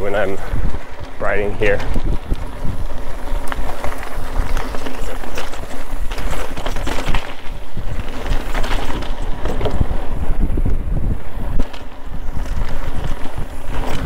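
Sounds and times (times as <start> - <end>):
bike rattling over bumps: 0.0 - 14.0
tyres on wooden bridge boards: 0.0 - 14.0
tyres rolling over dirt and rock: 0.0 - 14.0
wind rumbling on microphone: 0.0 - 14.0.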